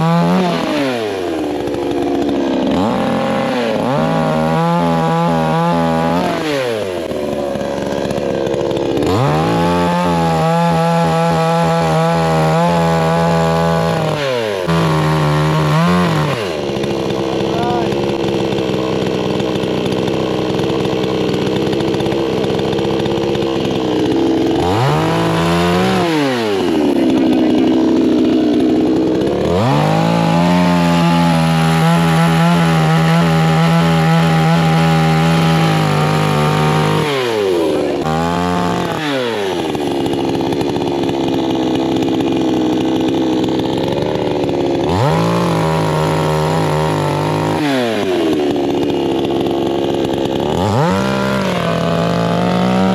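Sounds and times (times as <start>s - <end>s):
chainsaw engine revving: 0.0s - 52.9s.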